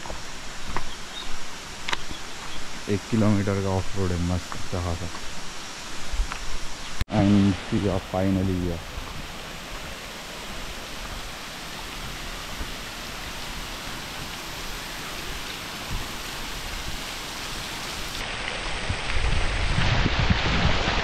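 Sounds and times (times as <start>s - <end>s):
falling water rushing: 0.0s - 21.0s.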